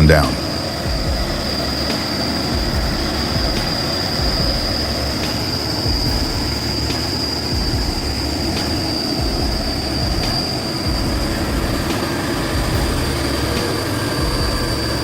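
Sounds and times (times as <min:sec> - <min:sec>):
heavy vehicle rumbling: 0:00.0 - 0:15.0
high-pitched whine: 0:00.0 - 0:15.0.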